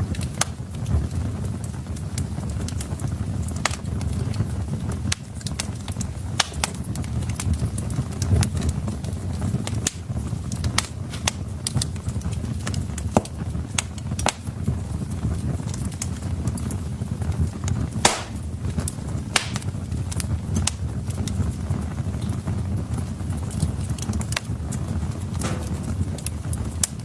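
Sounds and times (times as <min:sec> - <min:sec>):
burning logs crackling and popping: 0:00.0 - 0:27.0
fire flames rumbling: 0:00.0 - 0:27.0.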